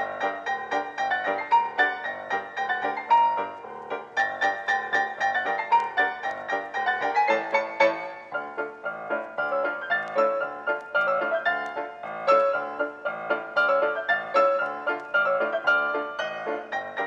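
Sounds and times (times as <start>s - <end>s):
light piano melody: 0.0s - 17.0s.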